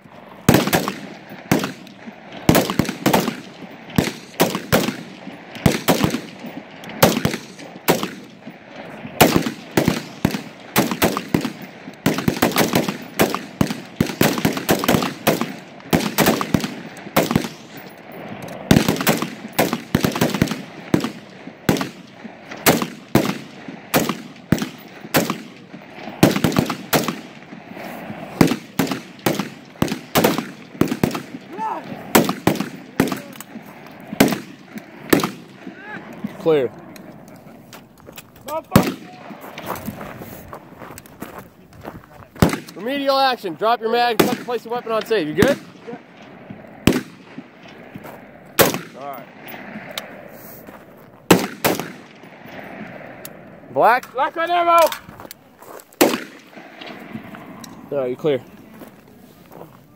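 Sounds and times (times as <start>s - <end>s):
rifle shots with echo: 0.3s - 37.6s, 38.5s - 40.2s, 42.3s - 50.3s, 51.3s - 55.1s, 56.0s - 59.7s.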